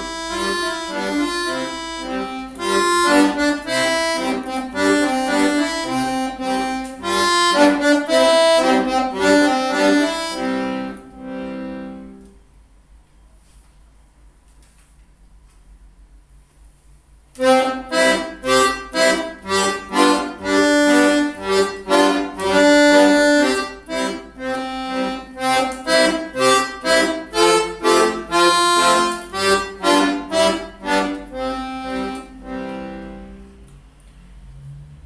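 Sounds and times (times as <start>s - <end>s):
piano accordion chords: 0.0s - 12.4s, 17.4s - 33.7s.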